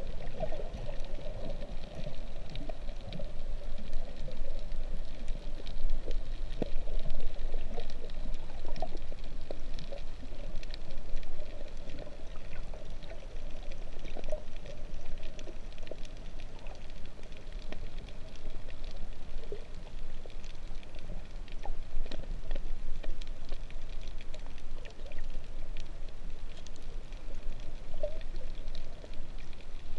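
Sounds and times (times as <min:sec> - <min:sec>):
muffled underwater sloshing: 0:00.0 - 0:29.9
small clicks and crackles: 0:00.0 - 0:29.9.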